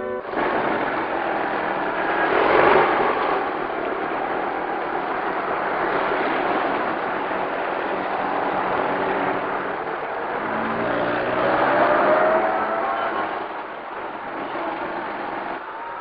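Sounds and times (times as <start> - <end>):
passing cars hiss and rumble: 0.0 - 16.0.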